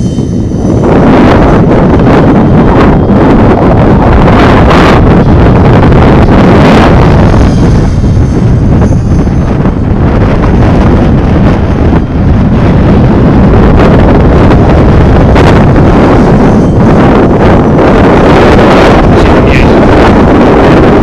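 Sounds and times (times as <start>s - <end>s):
rc helicopter motor whine: 0.0s - 21.0s
strong wind buffeting microphone: 0.0s - 21.0s.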